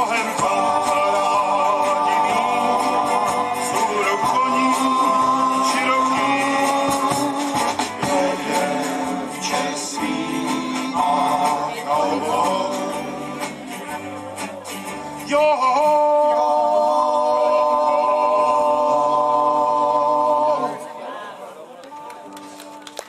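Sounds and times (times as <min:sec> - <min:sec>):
group singing: 0:00.0 - 0:13.9, 0:15.2 - 0:21.1
acoustic guitars and banjo: 0:00.0 - 0:22.8.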